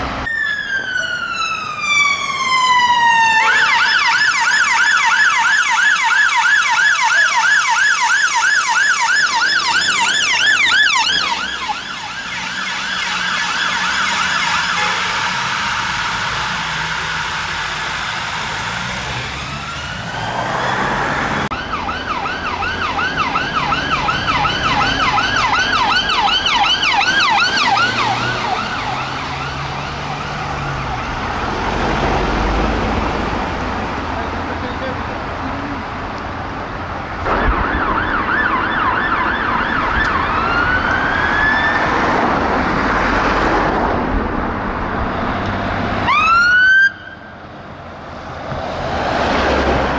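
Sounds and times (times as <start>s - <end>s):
rising siren wail: 0.0s - 34.1s, 37.0s - 49.9s
road and engine noise: 0.0s - 49.9s
sirens on fast yelp: 0.2s - 32.5s, 37.2s - 43.6s, 45.8s - 47.4s.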